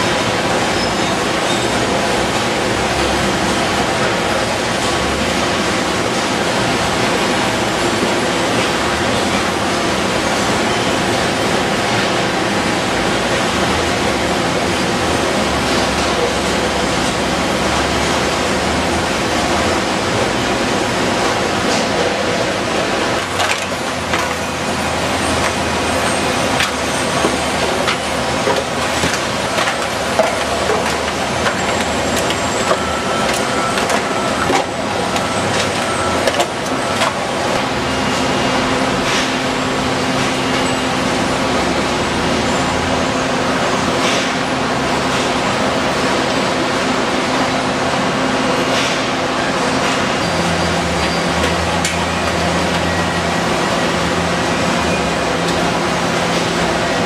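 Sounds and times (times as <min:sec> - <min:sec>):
conveyors running: 0:00.0 - 0:57.0.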